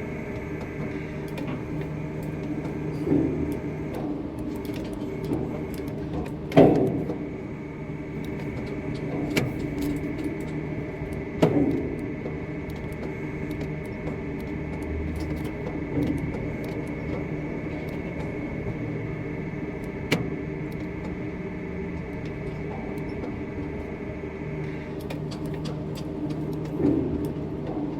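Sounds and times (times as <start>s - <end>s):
machinery hum: 0.0s - 27.9s.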